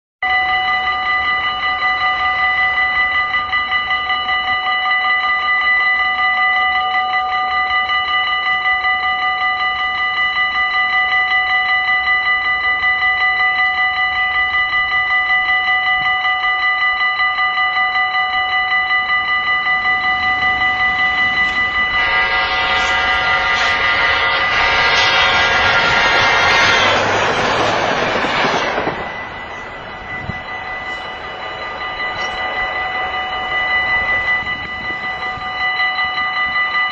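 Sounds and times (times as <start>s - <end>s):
approaching train noise: 0.2s - 36.9s
level-crossing warning bell ringing: 0.2s - 36.9s.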